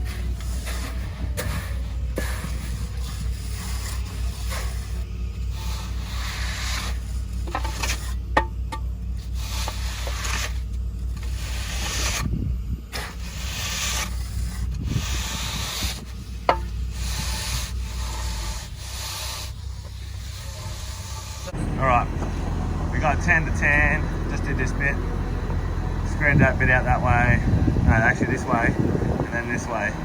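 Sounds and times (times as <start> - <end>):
hand tools scraping wet concrete: 0.0 - 8.2, 9.1 - 12.3, 12.9 - 22.0, 22.9 - 25.0, 26.1 - 30.0.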